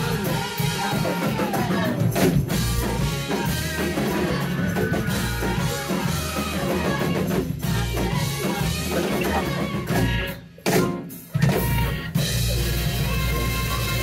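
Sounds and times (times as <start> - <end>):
electric bass: 0.0 - 10.5, 11.3 - 14.0
drum kit: 0.0 - 14.0
rock band playing: 0.0 - 14.0.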